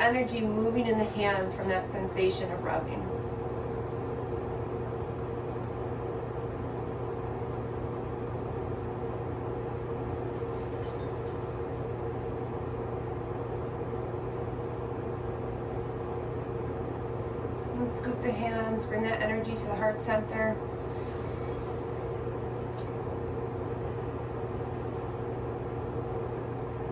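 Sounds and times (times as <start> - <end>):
steady machine hum: 0.0 - 26.9.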